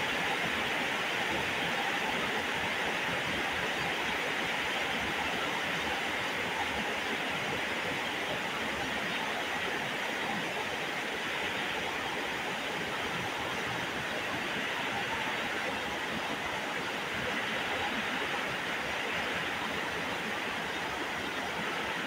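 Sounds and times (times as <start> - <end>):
heavy rain on standing water: 0.0 - 22.0.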